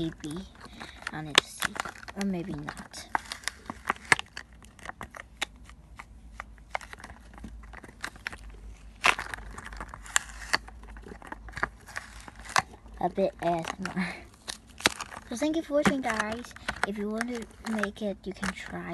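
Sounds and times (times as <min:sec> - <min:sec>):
sticky balloons crackling: 0:00.0 - 0:18.9.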